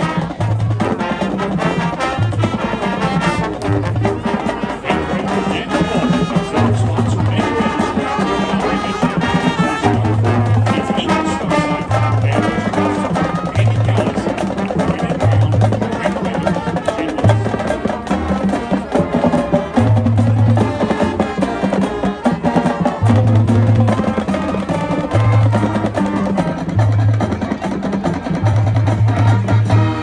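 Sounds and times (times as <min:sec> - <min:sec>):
held low brass notes: 0:00.0 - 0:30.0
marching band playing: 0:00.0 - 0:30.0
rapid drumline strikes: 0:00.0 - 0:30.0.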